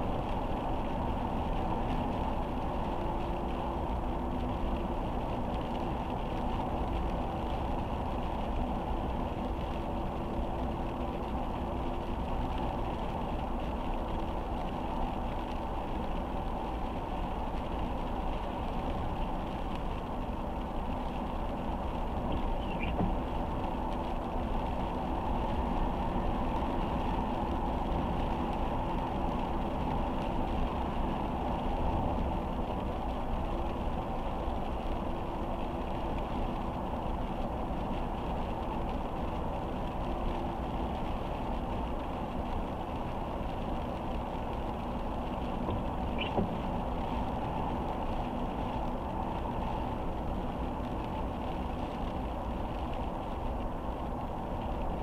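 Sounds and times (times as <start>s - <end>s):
low engine hum: 0.0s - 55.0s
steady rain: 0.0s - 55.0s
tyres on wet pavement: 0.0s - 55.0s.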